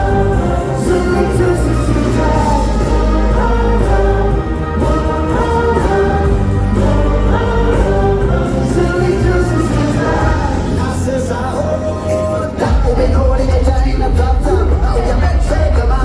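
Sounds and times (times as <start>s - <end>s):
person singing: 0.0s - 16.0s
steady bass: 0.0s - 16.0s.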